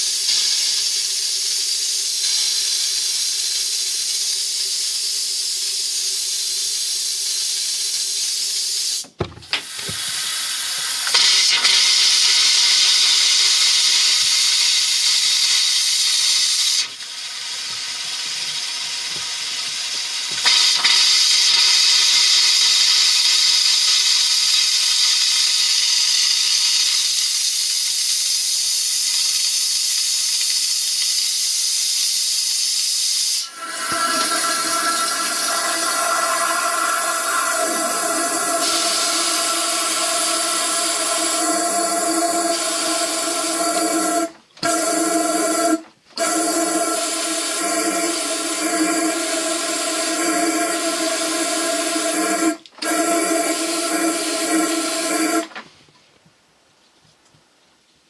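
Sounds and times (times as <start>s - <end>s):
compressed air hissing: 0.0s - 55.6s.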